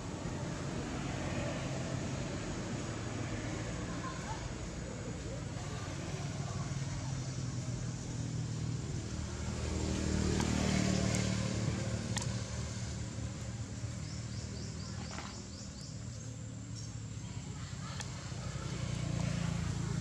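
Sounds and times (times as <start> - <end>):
vehicle engine passing: 0.1 - 20.0.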